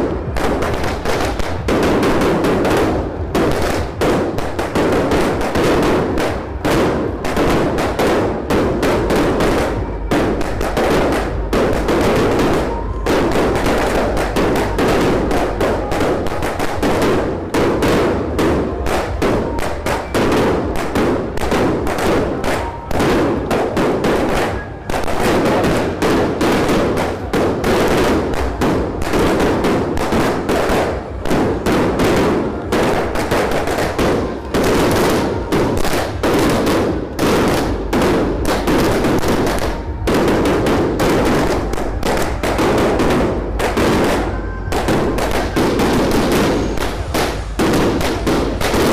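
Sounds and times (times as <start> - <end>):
firecrackers crackling: 0.0 - 48.9.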